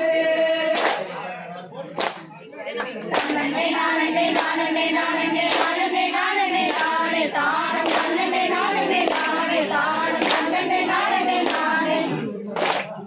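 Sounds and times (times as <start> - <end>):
women singing in chorus: 0.0 - 1.4, 2.8 - 13.0
unison hand claps: 0.6 - 1.3, 2.0 - 13.0.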